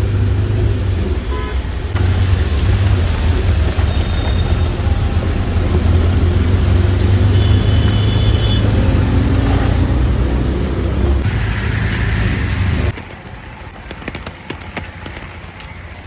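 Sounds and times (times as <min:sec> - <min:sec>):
road traffic rumble and hiss: 0:00.0 - 0:16.0.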